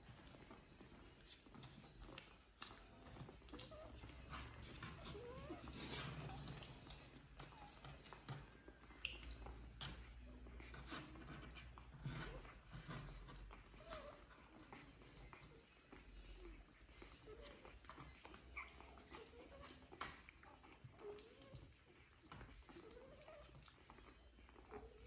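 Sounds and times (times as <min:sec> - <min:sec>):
puppies squeaking and whimpering: 0:00.0 - 0:25.0.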